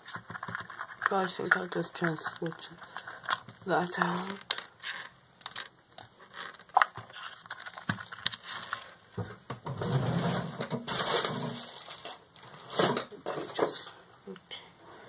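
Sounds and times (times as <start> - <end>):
rustling and shuffling: 0.0 - 14.0.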